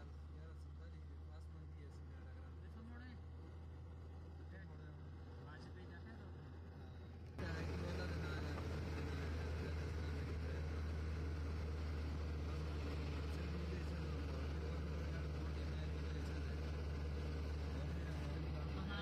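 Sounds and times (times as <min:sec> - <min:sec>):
road noise: 0:00.0 - 0:19.0
vehicle engine drone: 0:00.0 - 0:19.0.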